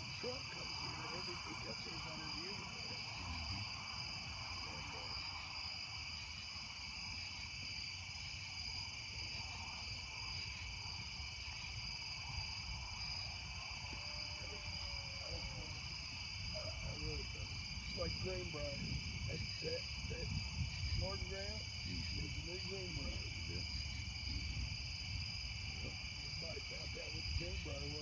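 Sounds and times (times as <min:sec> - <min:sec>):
crickets and night insects: 0:00.0 - 0:28.0.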